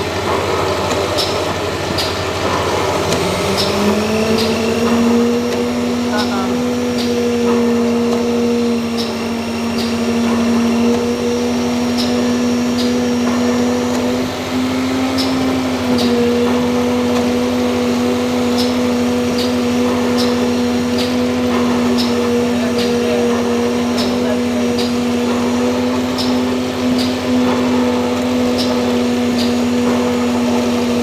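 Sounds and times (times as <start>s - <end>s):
machine electric hum: 0.0s - 31.0s.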